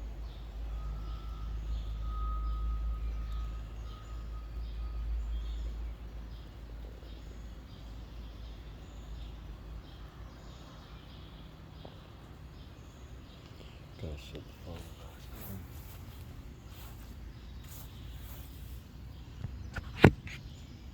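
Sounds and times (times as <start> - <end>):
low engine rumble: 0.0 - 20.9
small birds chirping: 0.0 - 20.9.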